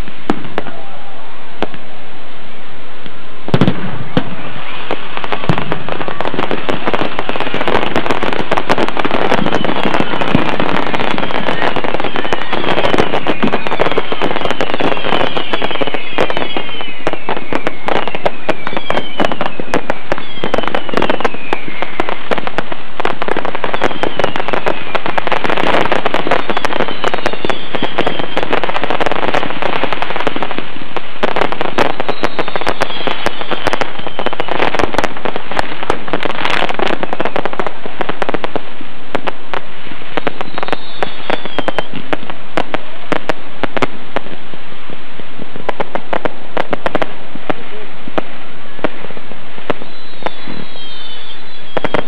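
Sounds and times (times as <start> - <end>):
fireworks cracking and banging: 0.0 - 2.2, 2.9 - 52.0
whistling rockets: 3.4 - 44.2, 48.8 - 52.0.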